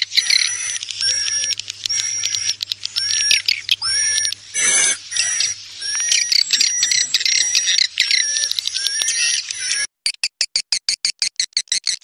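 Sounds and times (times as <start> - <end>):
swiftlet chirps and twittering: 0.0 - 9.9.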